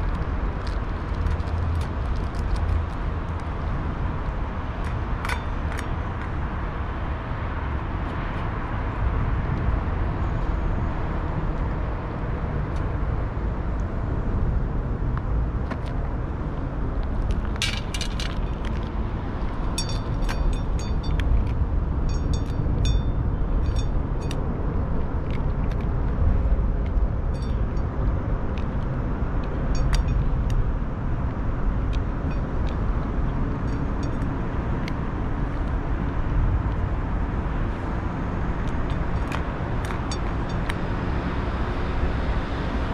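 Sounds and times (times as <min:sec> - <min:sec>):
low rumble of road traffic: 0:00.0 - 0:42.9.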